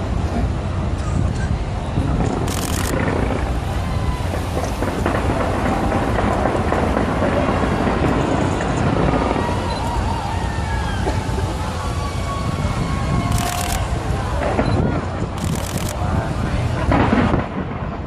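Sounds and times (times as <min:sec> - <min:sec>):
fireworks booming and crackling: 0:00.0 - 0:18.0.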